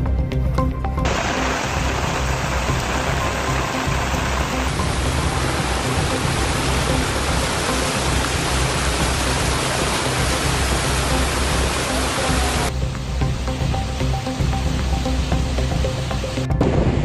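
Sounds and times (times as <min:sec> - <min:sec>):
heavy rain hissing: 0:01.0 - 0:16.5.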